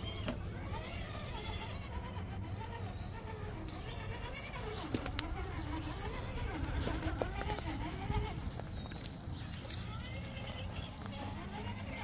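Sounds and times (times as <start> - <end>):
toy car motors whining: 0.0 - 12.0.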